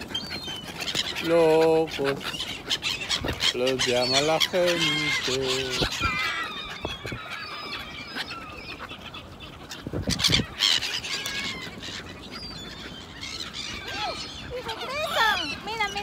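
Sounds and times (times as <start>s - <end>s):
gulls squealing cries: 0.0s - 16.0s
wings flapping: 0.0s - 16.0s.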